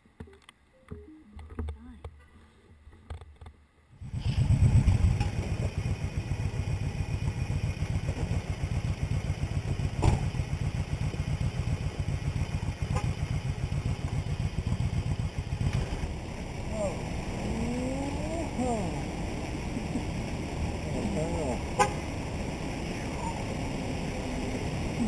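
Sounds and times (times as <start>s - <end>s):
motorcycle engine starting and idling: 4.0s - 25.0s.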